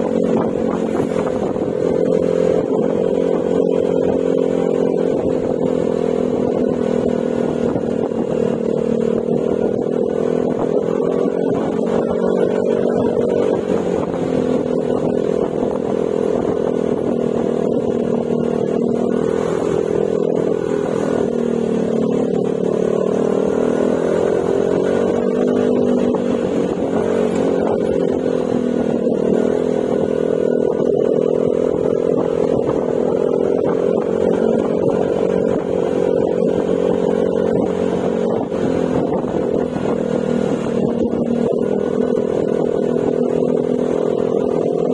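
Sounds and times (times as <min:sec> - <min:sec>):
scooter engine running: 0:00.0 - 0:44.9.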